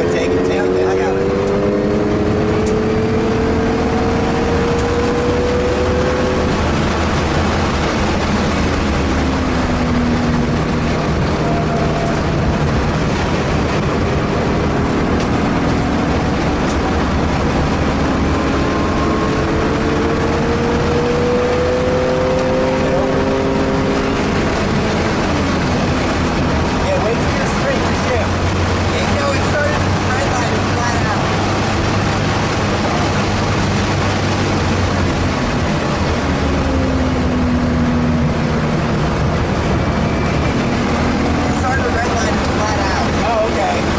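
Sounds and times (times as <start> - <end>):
car engine running hard: 0.0 - 43.9
road and wind noise: 0.0 - 43.9.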